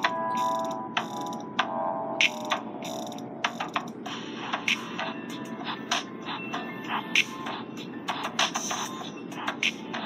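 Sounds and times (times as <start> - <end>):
music with sharp percussive hits: 0.0 - 10.0.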